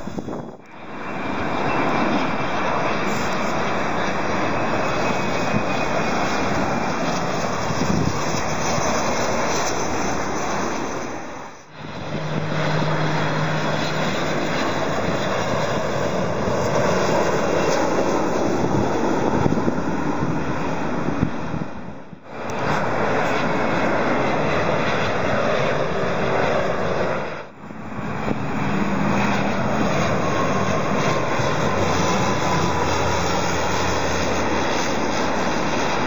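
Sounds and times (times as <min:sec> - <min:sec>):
jet airliners passing overhead: 0:00.0 - 0:36.0.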